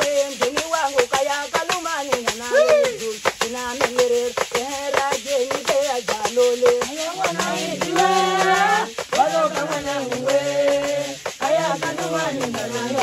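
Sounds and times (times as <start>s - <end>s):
group singing: 0.0s - 13.0s
person singing lead: 0.0s - 13.0s
raft rattles shaken: 0.0s - 13.0s.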